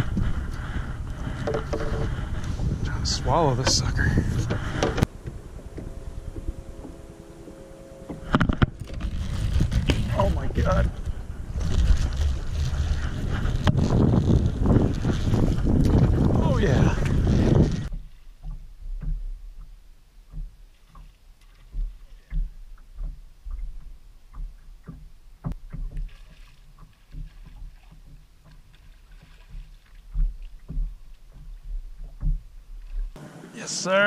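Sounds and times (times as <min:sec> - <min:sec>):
water slapping against boat hull: 0:00.0 - 0:33.2.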